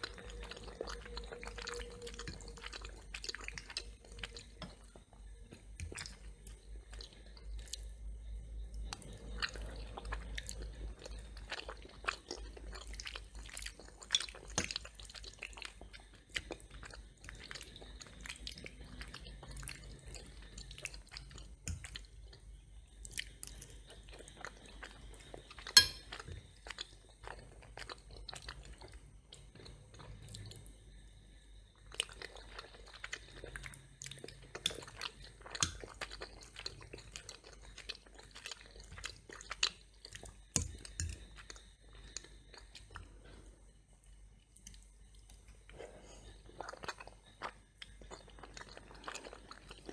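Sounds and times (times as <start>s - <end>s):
wet chewing: 0.0s - 30.7s, 31.8s - 49.9s.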